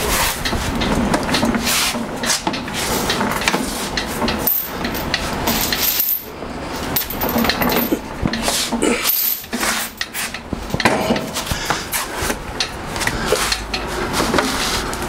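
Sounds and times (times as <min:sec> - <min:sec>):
casters rolling on concrete: 0:00.0 - 0:15.0.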